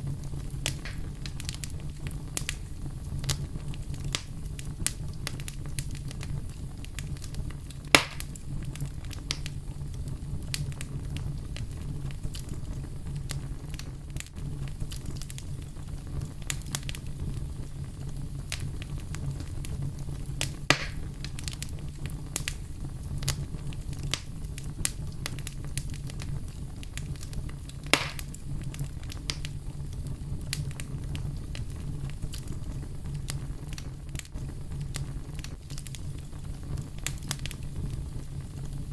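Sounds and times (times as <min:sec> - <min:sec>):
loud fire pops: 0:00.0 - 0:38.9
wood fire crackling: 0:00.0 - 0:38.9.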